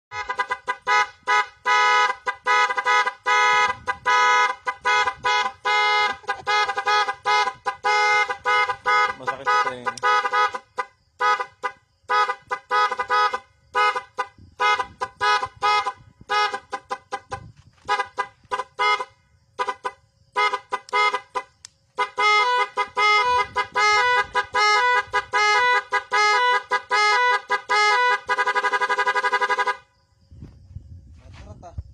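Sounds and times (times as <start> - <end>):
vehicle horn warbling toots: 0.1 - 29.9.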